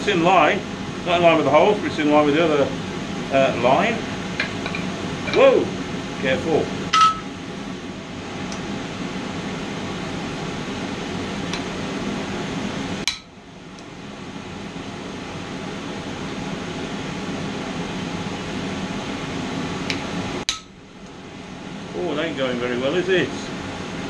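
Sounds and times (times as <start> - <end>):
forge blower rushing hum: 0.0 - 24.0.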